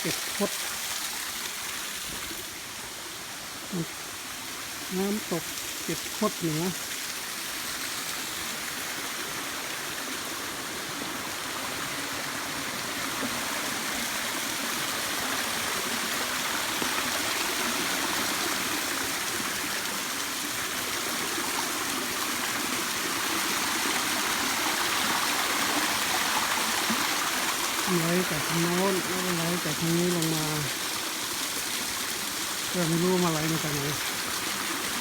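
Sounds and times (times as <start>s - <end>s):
waterfall rushing and splashing: 0.0s - 35.0s.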